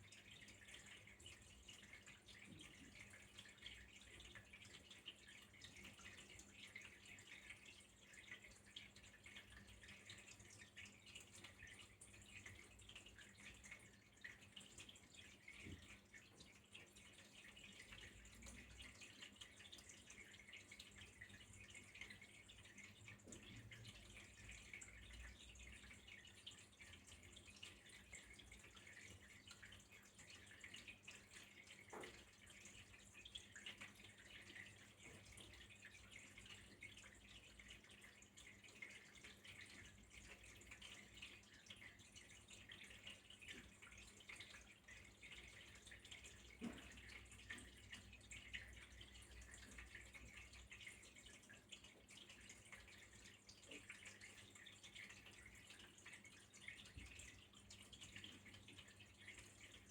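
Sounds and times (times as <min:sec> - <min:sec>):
trickling stream water: 0:00.0 - 0:59.9.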